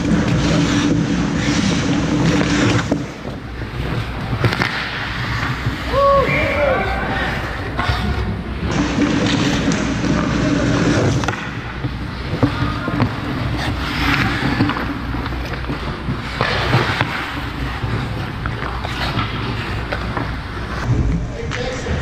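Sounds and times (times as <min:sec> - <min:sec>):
skate blades scraping ice: 0:00.0 - 0:22.0.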